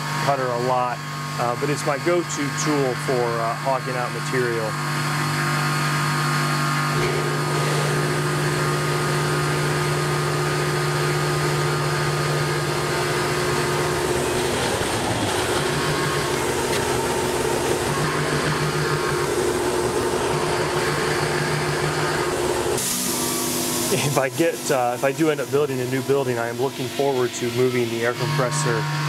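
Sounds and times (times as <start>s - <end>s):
air compressor running: 0.0s - 29.0s
milling machine cutting metal: 0.0s - 29.0s.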